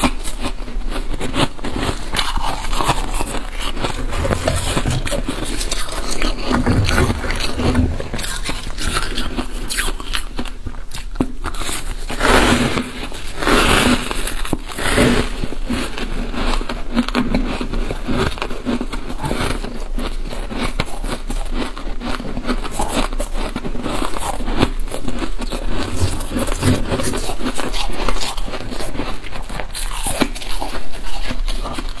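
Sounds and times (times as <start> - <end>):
frost being bitten and chewed: 0.0 - 32.0.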